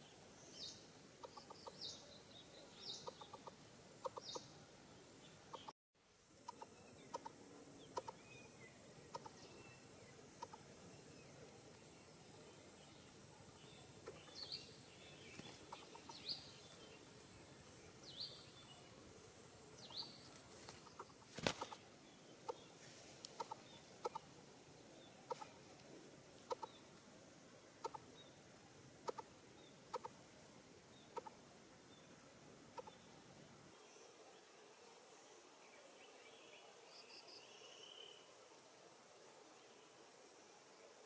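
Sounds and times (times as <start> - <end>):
faint bird chirps: 0.0 - 5.7, 6.4 - 27.0, 30.9 - 38.6.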